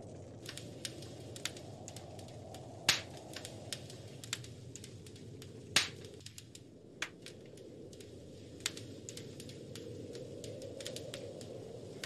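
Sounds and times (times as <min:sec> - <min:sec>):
low rush of wind: 0:00.0 - 0:12.0
wood fire crackling: 0:00.0 - 0:12.0.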